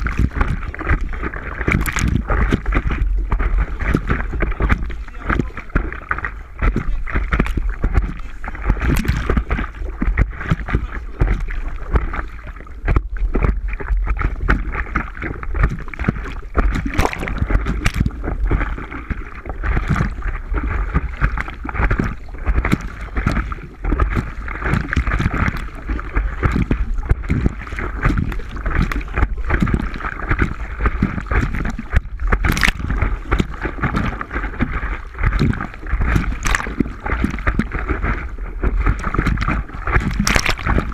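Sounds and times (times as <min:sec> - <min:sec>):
water splashing and lapping: 0:00.0 - 0:40.9
wind buffeting microphone: 0:00.0 - 0:40.9.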